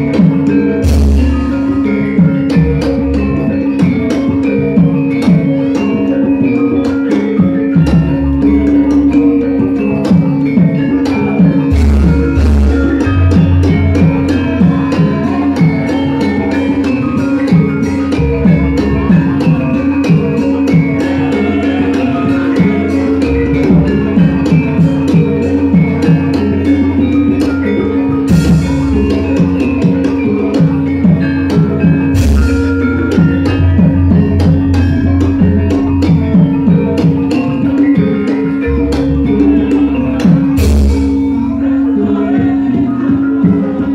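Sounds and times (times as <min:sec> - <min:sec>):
drum strokes: 0:00.0 - 0:43.9
metallophones ringing: 0:00.0 - 0:43.9.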